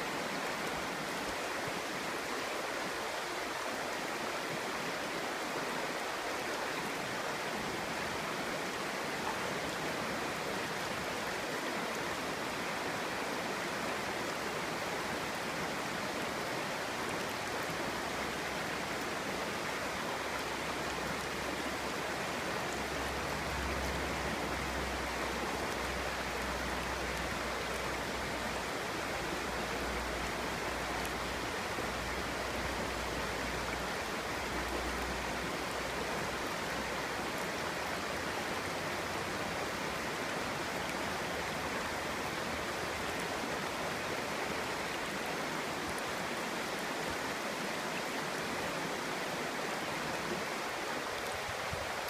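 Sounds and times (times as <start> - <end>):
stream babbling over stones: 0.0 - 52.0.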